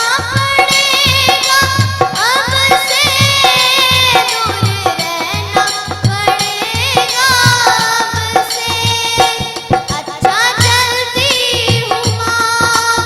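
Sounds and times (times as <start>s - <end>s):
girl singing: 0.0s - 13.0s
hand drum beat: 0.0s - 13.0s.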